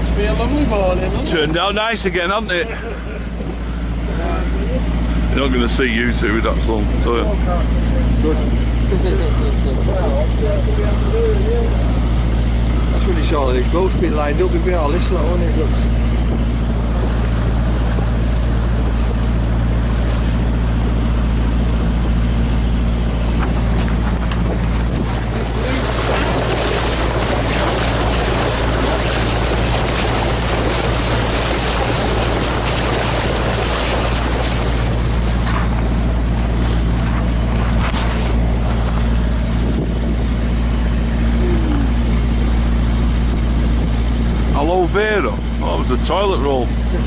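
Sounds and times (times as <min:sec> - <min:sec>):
motor boat engine running: 0:00.0 - 0:47.0
water rushing past hull: 0:00.0 - 0:47.0.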